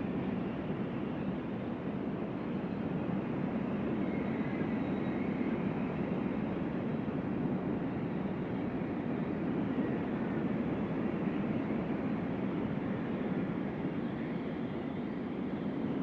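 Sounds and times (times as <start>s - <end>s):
faint high wind whistle: 0.0s - 16.0s.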